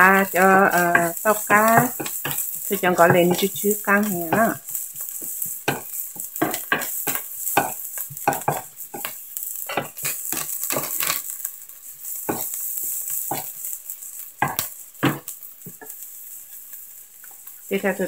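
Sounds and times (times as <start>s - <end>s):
spatula scraping pan: 0.0s - 16.7s
food sizzling in oil: 0.0s - 18.0s.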